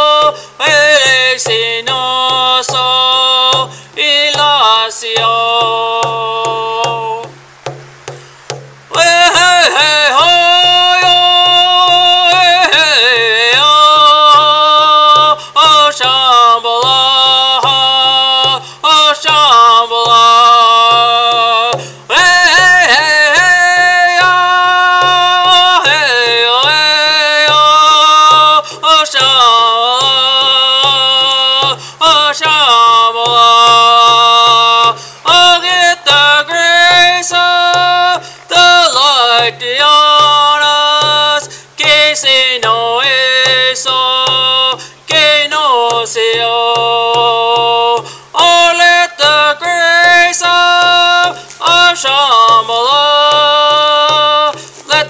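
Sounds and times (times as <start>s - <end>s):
steady low drumbeat: 0.0s - 55.0s.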